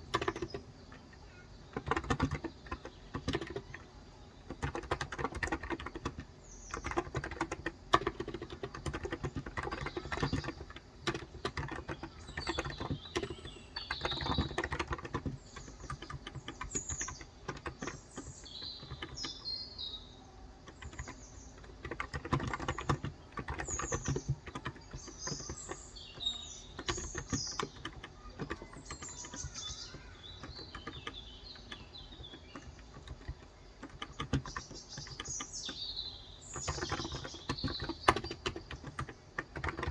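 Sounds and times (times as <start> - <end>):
birds chirping: 0.0 - 39.9
typing on a keyboard: 0.0 - 39.9.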